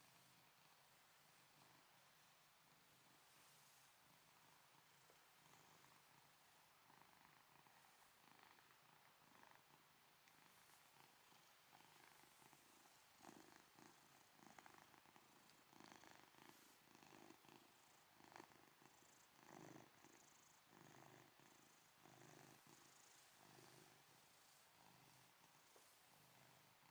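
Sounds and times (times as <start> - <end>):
cat snoring and purring: 4.7 - 26.9.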